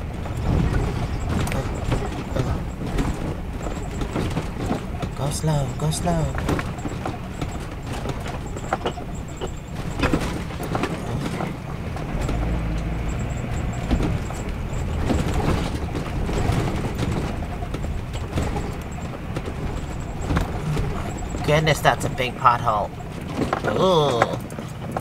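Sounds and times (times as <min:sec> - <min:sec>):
engine and road rumble: 0:00.0 - 0:25.0
knocks and rattles: 0:00.0 - 0:25.0.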